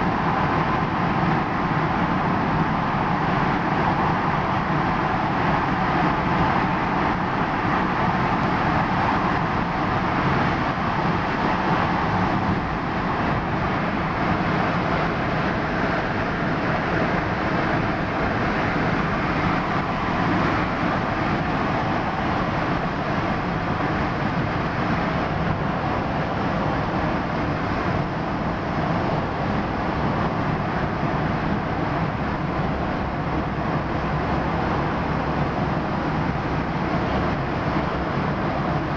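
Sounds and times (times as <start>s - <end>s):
car driving through tunnel: 0.0s - 38.9s.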